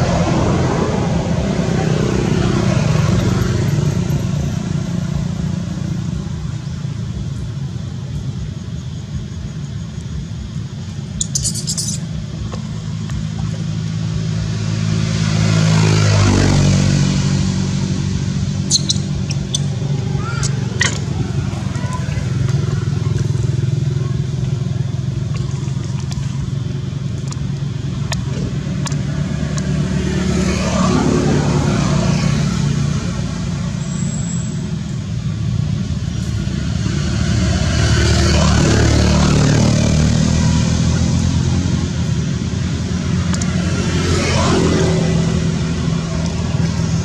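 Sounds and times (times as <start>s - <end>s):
road traffic engine hum: 0.0s - 47.0s
vehicles passing: 0.0s - 47.0s.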